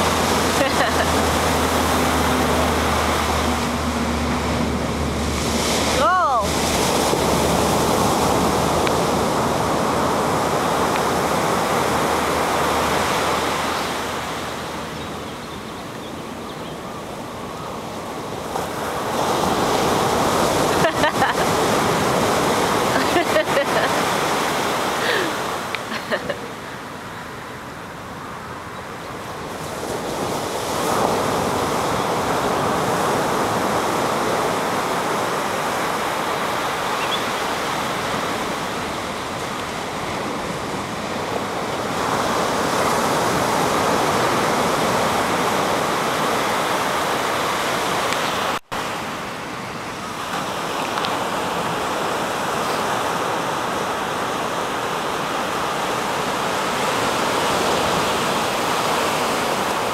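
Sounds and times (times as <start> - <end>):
ocean surf breaking: 0.0 - 59.9.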